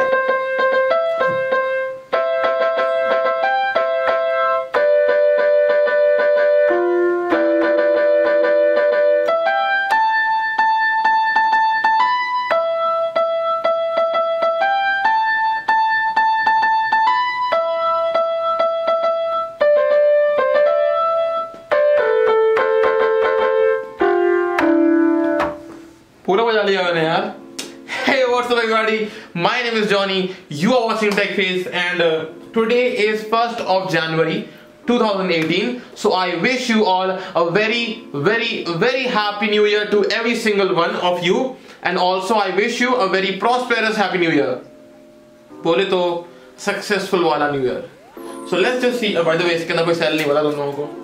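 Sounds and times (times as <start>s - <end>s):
electronic keyboard melody: 0.0s - 51.0s.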